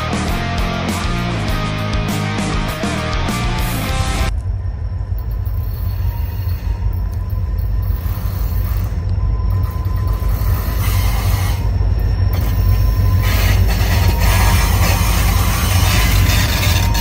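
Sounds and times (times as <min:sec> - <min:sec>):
locomotive engine rumble: 0:01.2 - 0:17.0.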